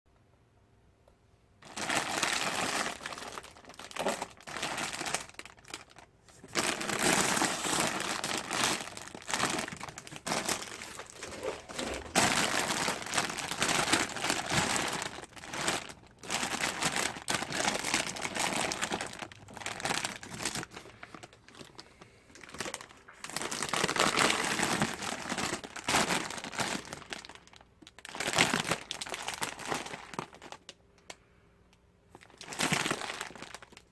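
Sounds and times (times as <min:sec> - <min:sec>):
plastic wrapper crinkling: 0:01.6 - 0:31.1, 0:32.1 - 0:33.9.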